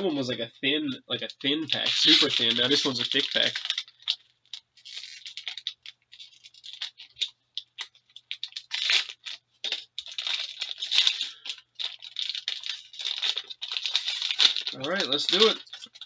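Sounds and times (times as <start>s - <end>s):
wrapper tearing and crinkling: 1.2s - 16.0s.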